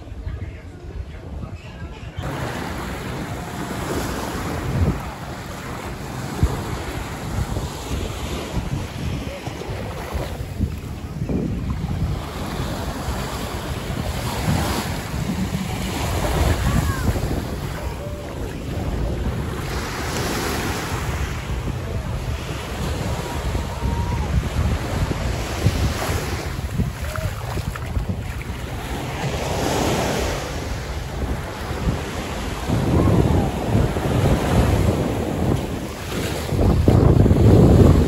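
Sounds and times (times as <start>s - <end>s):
gentle surf: 0.0s - 38.0s
wind buffeting microphone: 0.0s - 38.0s.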